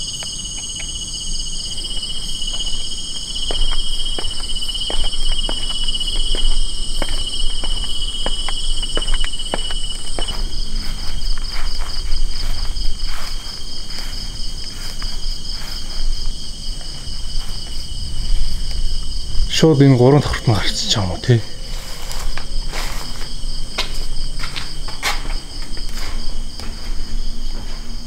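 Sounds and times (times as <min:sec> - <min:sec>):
tropical insects buzzing: 0:00.0 - 0:28.0
footsteps on hard floor: 0:01.6 - 0:19.4, 0:21.7 - 0:28.0.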